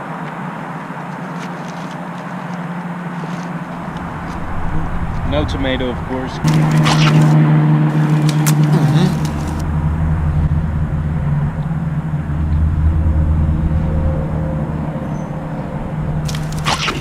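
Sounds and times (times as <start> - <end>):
car engine idling: 3.4 - 17.0.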